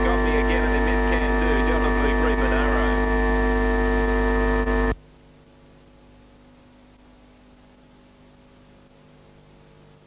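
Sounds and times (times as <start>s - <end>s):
faint electrical hum: 0.0s - 10.0s
tape hiss: 0.0s - 10.0s.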